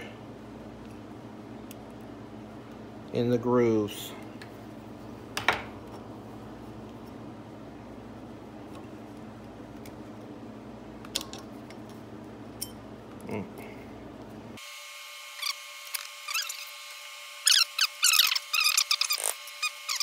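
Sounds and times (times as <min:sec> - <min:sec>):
low shop hum: 0:00.0 - 0:20.0.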